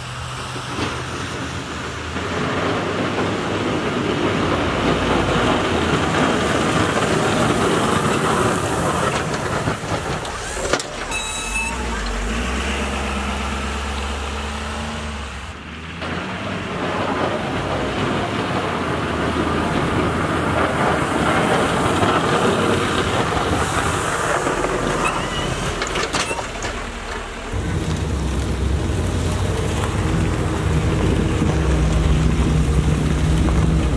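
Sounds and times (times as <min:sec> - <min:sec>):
diesel engine hum: 0:00.0 - 0:33.9
truck engine and road noise: 0:00.0 - 0:33.9.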